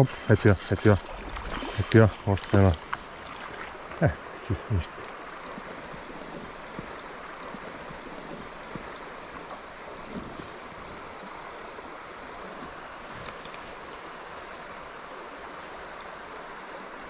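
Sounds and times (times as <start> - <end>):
shallow river flowing over stones: 0.0 - 17.0.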